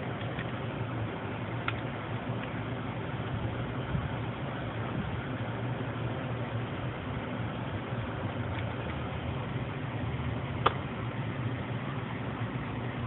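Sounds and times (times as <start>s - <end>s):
computer humming: 0.0s - 13.0s.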